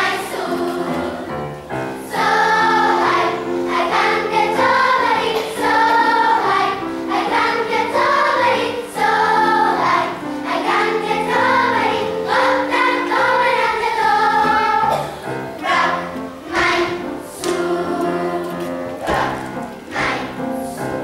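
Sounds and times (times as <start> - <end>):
children's choir singing: 0.0 - 21.0
piano accompaniment: 0.0 - 21.0.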